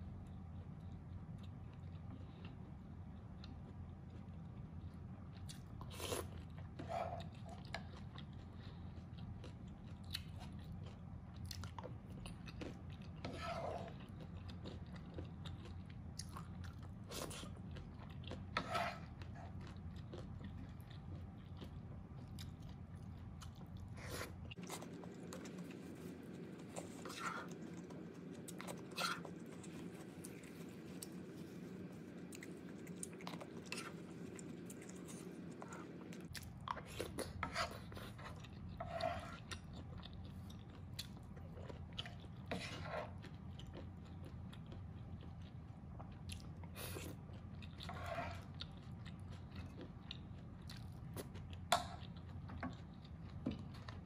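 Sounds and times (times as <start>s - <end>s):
steady low hum: 0.0s - 54.0s
person chewing: 0.2s - 54.0s.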